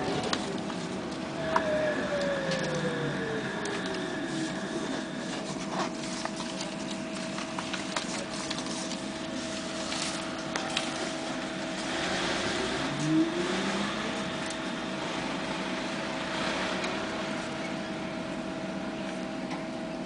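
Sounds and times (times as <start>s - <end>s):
electric traction drive whine: 0.0s - 20.0s
road noise: 0.0s - 20.0s
two-tone electrical hum: 0.0s - 20.0s.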